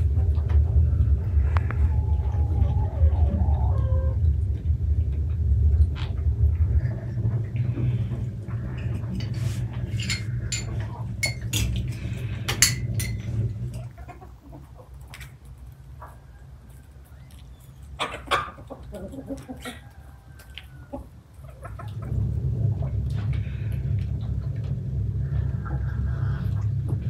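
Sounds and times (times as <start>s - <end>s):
chickens clucking: 0.0s - 27.0s
low steady rumble: 0.0s - 27.0s.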